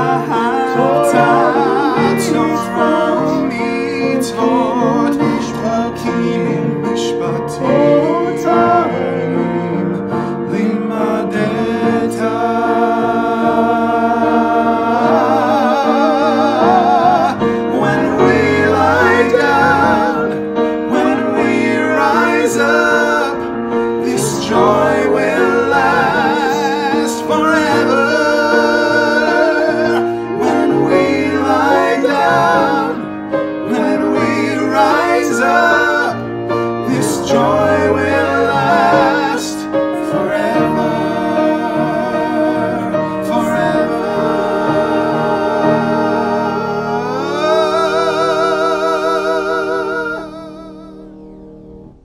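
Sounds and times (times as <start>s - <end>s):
men singing with vibrato: 0.0s - 51.2s
sustained instrumental accompaniment: 0.0s - 52.0s.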